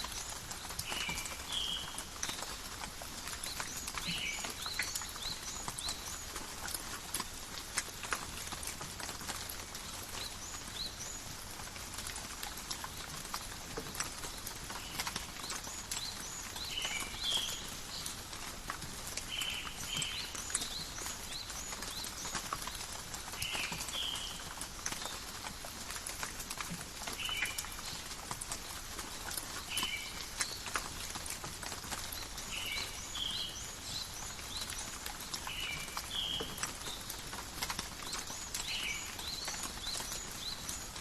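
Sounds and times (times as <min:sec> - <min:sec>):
close raindrops ticking: 0:00.0 - 0:41.0
forest rain: 0:00.0 - 0:41.0.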